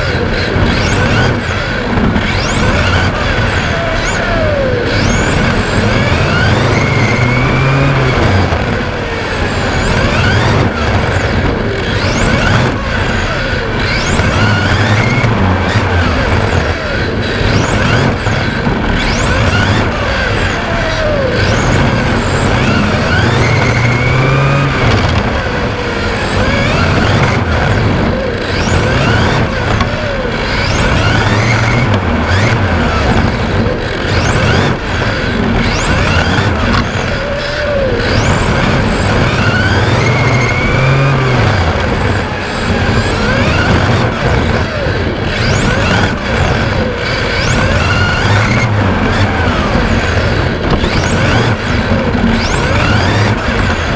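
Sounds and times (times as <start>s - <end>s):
electric motor whining: 0.0s - 53.9s
tyre and wind noise: 0.0s - 53.9s.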